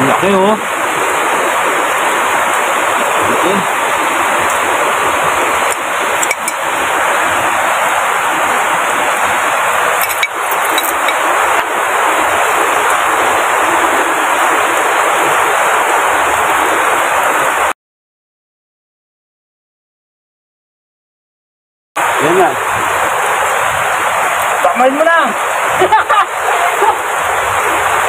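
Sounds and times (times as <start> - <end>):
heavy rain: 0.0 - 17.8, 22.0 - 28.0.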